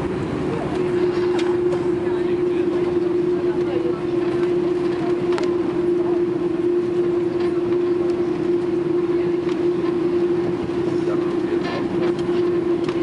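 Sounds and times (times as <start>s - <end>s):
aircraft engines and landing gear roar: 0.0s - 13.0s
steady cabin hum: 0.0s - 13.0s.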